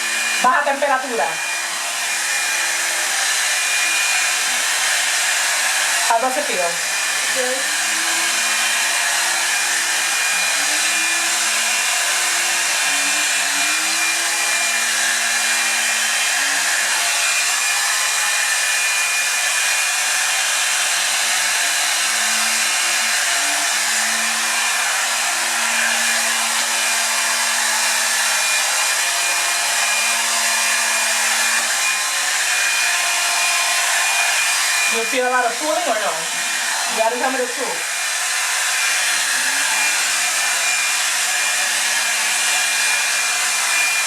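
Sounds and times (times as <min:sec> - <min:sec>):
hot-air brush running: 0:00.0 - 0:44.0.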